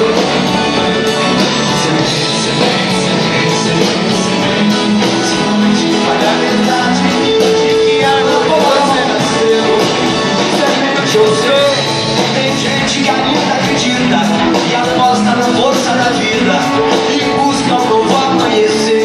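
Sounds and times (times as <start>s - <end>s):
guitar: 0.0s - 19.0s
live band music through speakers: 0.0s - 19.0s.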